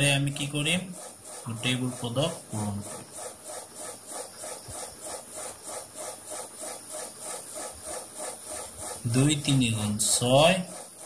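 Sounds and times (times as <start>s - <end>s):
pen scratching on paper: 0.0s - 11.0s
pulsing background noise: 0.0s - 11.0s.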